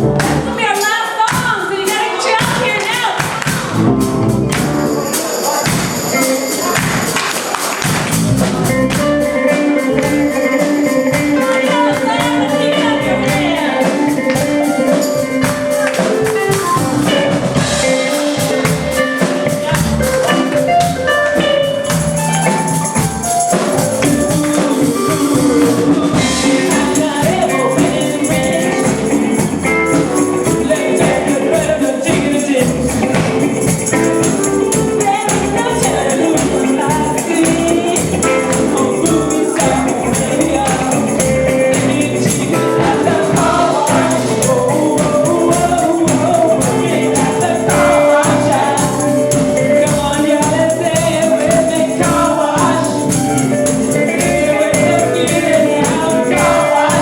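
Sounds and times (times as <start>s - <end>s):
bass: 0.0s - 1.5s, 2.4s - 7.2s, 7.8s - 57.0s
live band playing upbeat song: 0.0s - 57.0s
steady drum beat: 0.0s - 57.0s.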